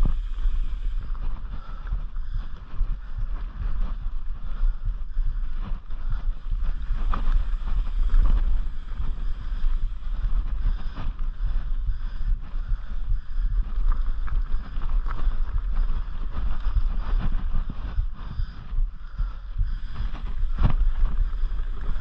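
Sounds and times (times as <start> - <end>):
bike knocking and rattling: 0.0 - 22.0
wind buffeting microphone: 0.0 - 22.0.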